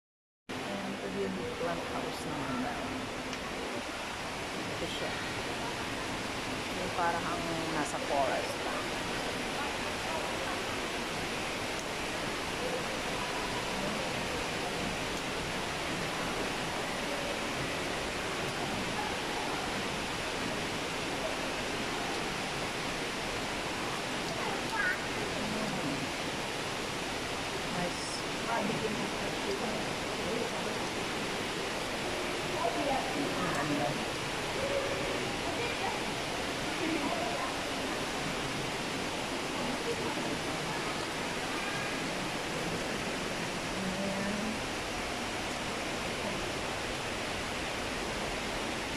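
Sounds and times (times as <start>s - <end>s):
faint distant voices: 0.5s - 48.9s
falling water rushing: 0.5s - 48.9s.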